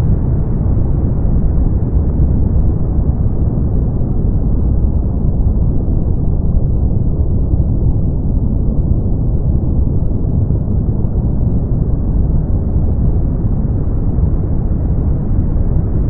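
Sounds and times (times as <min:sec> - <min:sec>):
brown noise rumble: 0:00.0 - 0:16.0.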